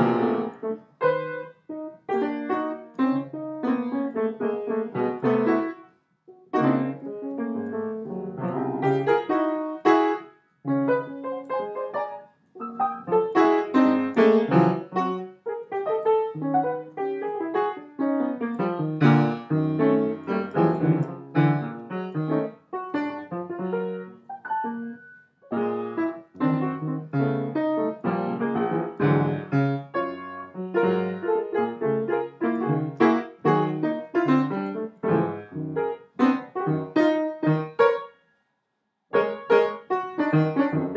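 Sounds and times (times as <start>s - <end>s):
piano notes and chords: 0.0s - 38.2s, 39.1s - 40.9s.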